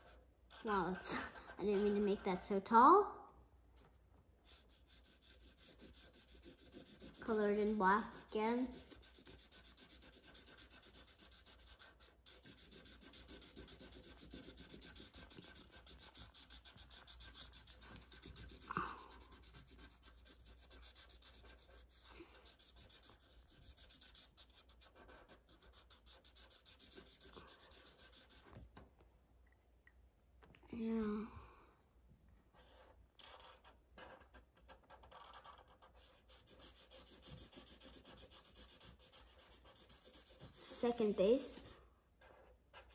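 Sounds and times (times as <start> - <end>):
marker scribbling on paper: 0.0 - 2.7, 3.8 - 28.6, 32.5 - 42.9.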